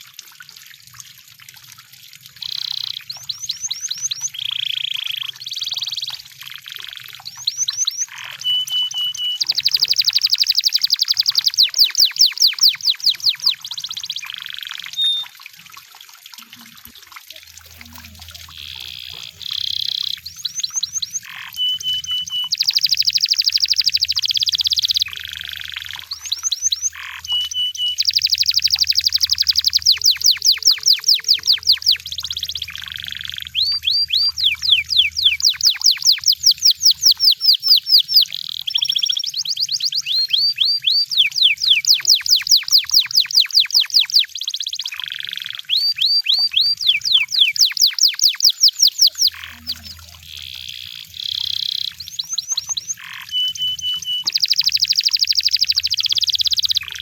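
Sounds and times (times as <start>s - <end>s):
canary singing: 2.4s - 15.3s, 17.6s - 57.0s.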